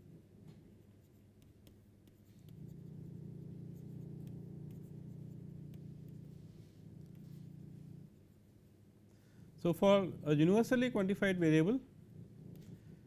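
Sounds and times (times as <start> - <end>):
low steady hum: 0.0 - 13.0
stylus scratching tablet screen: 0.8 - 8.5, 9.6 - 13.0.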